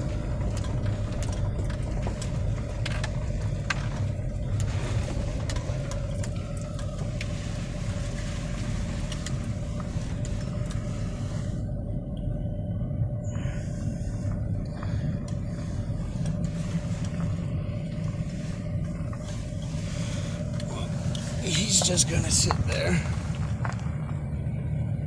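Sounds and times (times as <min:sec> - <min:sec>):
car engine rumble from inside: 0:00.0 - 0:25.0.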